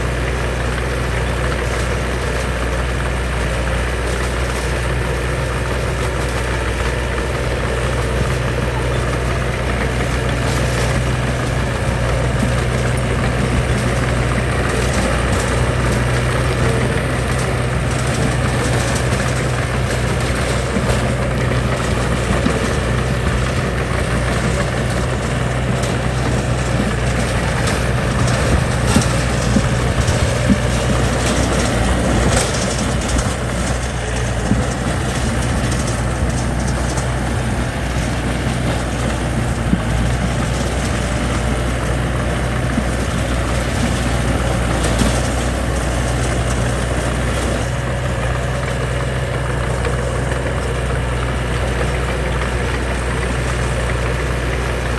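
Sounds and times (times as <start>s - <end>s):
heavy diesel engine running: 0.0s - 54.9s
knocks and clanks: 0.3s - 54.9s.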